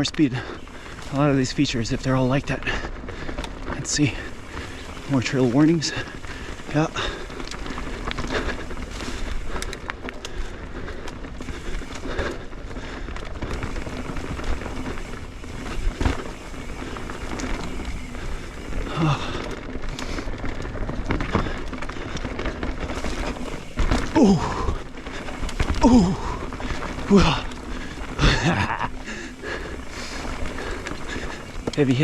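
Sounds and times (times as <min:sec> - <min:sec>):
bike rattling: 0:00.0 - 0:32.0
tyre noise on dirt and rock: 0:00.0 - 0:32.0.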